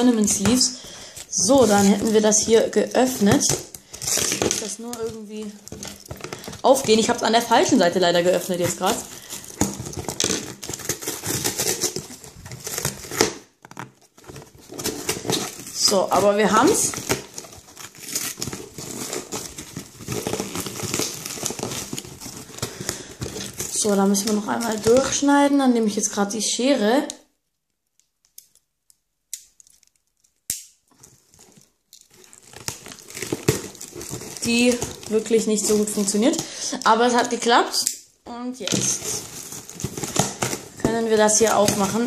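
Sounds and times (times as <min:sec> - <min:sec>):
cardboard tearing and crackling: 0:00.0 - 0:25.3, 0:30.9 - 0:36.6, 0:38.6 - 0:42.0.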